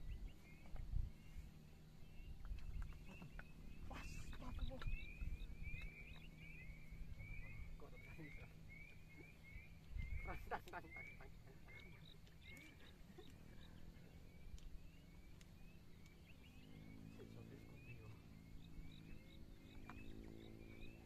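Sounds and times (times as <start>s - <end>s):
bird chirping: 0.0s - 21.0s
low steady hum: 0.0s - 21.0s.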